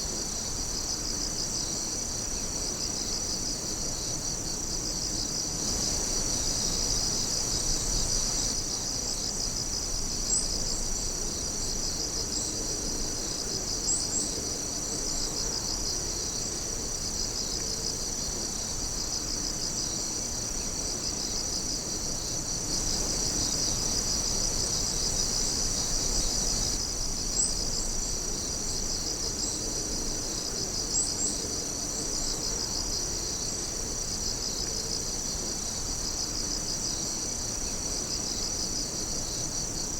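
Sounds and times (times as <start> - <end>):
night insects trilling: 0.0 - 39.9.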